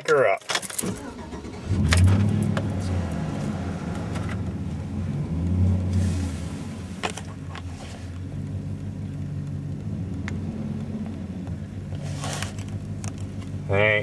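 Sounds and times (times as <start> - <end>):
truck engine starting and idling: 0.7 - 14.0.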